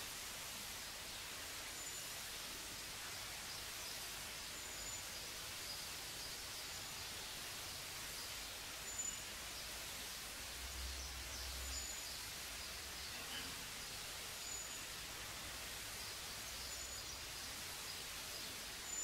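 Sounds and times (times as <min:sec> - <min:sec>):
tape hiss: 0:00.0 - 0:19.0.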